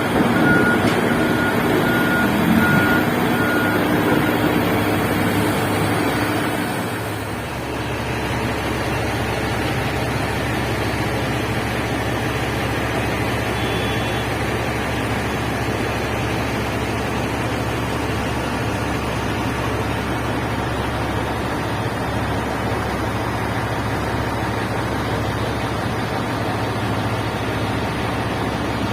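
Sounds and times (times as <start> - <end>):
heavy diesel machinery running: 0.0 - 28.9.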